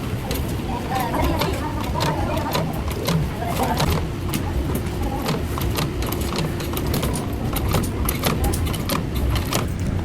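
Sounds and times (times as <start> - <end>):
factory machinery rumbling: 0.0 - 10.0.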